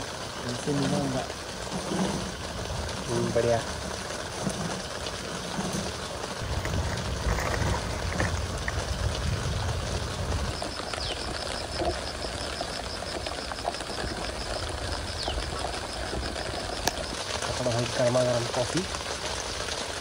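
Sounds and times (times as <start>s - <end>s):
rain on a tent: 0.0s - 20.0s.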